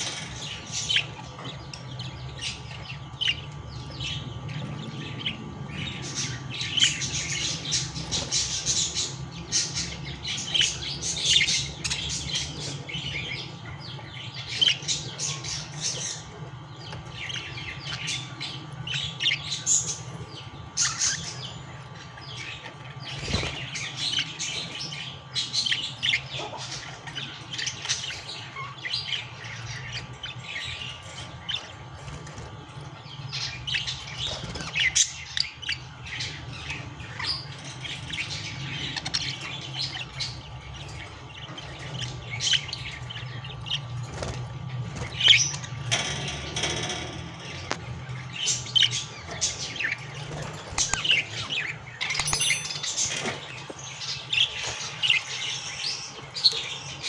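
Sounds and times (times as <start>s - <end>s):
budgies chirping and chattering: 0.0s - 57.0s
low steady hum: 0.0s - 57.0s.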